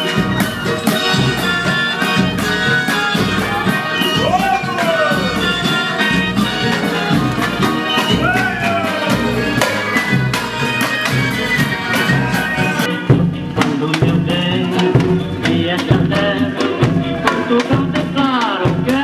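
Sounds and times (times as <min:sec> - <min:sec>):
street band brass and percussion: 0:00.0 - 0:19.0.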